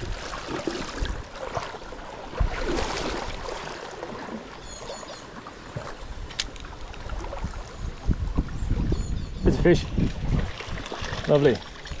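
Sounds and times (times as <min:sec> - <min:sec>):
stream water rippling: 0:00.0 - 0:12.0.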